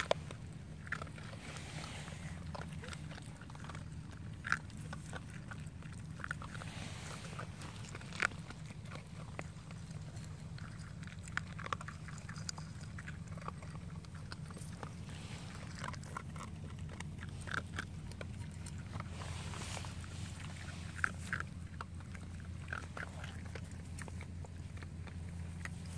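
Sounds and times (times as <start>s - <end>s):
puppies crunching dry kibble: 0.0s - 25.9s
steady low hum: 0.0s - 25.9s.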